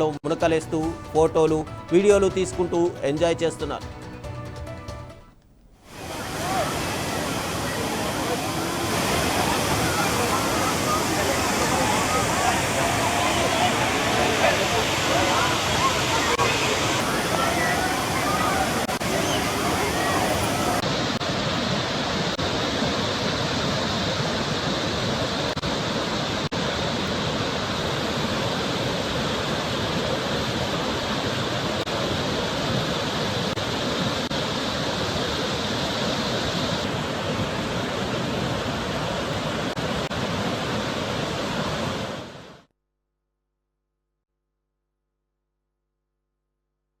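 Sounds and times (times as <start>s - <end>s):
waterfall rushing: 0.0s - 42.5s.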